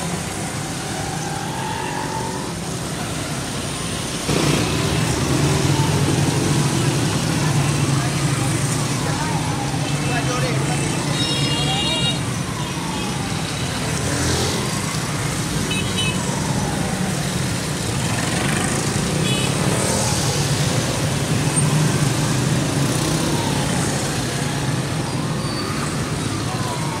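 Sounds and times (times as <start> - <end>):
traffic engines humming: 0.0 - 27.0.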